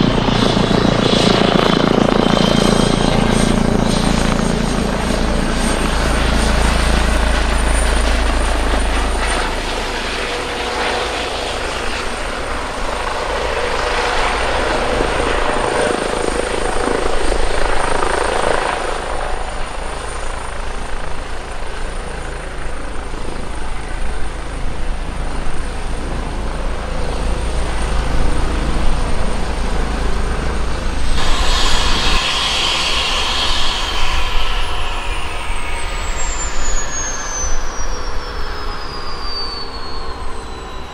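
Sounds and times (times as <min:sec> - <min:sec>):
helicopter rotor beat: 0:00.0 - 0:40.9
helicopter turbine whine: 0:00.0 - 0:40.9.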